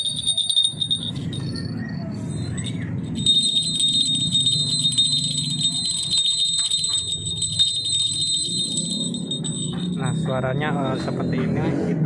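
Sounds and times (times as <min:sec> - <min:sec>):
jingle bell ringing: 0:00.0 - 0:11.0.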